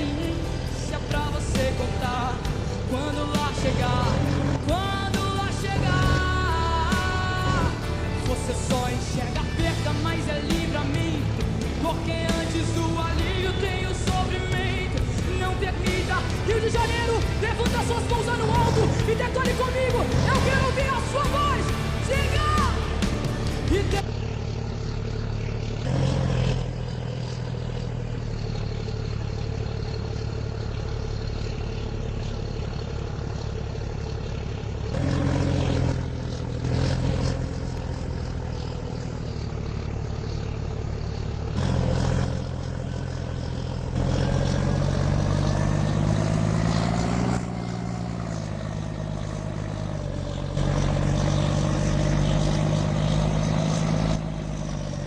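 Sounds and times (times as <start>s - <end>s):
heavy truck engine revving: 0.0s - 55.0s.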